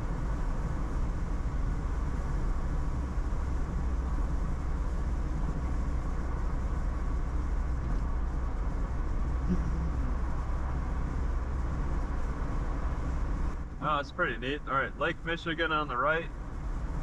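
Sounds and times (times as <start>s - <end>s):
vehicle road and engine rumble: 0.0s - 17.0s.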